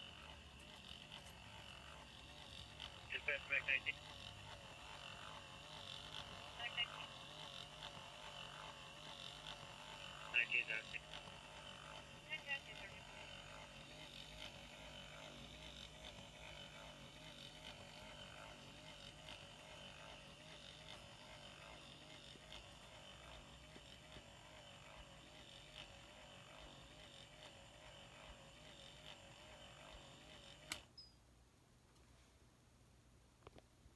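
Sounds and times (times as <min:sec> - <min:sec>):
small electric motor humming: 0:00.0 - 0:31.2.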